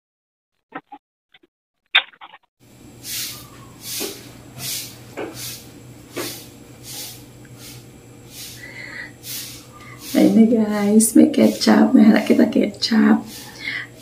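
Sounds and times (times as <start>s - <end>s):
low steady hum: 2.7s - 14.0s.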